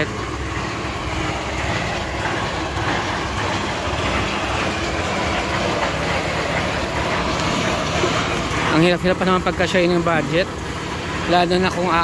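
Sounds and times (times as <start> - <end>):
engine-like rumble: 0.0 - 12.0.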